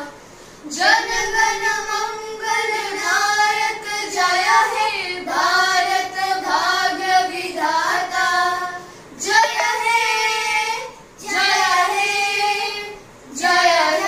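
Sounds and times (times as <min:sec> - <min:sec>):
children singing in unison: 0:00.8 - 0:14.0.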